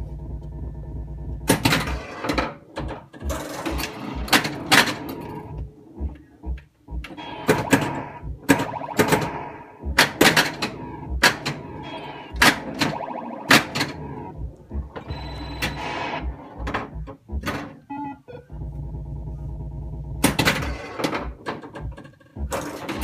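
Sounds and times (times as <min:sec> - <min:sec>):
steady electronic hum: 0:00.0 - 0:21.4
pinball ball clacking bumpers: 0:01.4 - 0:23.0
pinball electronic sound effects: 0:01.5 - 0:23.0.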